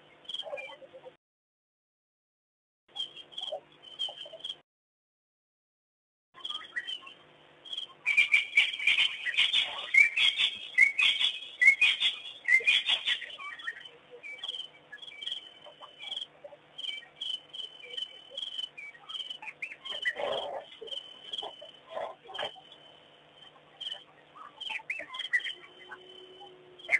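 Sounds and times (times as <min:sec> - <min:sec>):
birds chirping and whistling: 0:03.0 - 0:04.6, 0:06.4 - 0:26.9.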